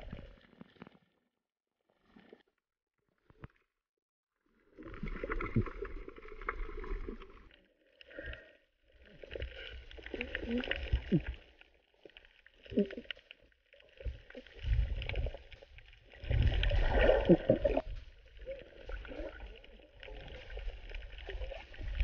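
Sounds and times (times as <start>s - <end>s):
underwater water rushing and bubbling: 0.0s - 1.0s, 4.6s - 22.0s.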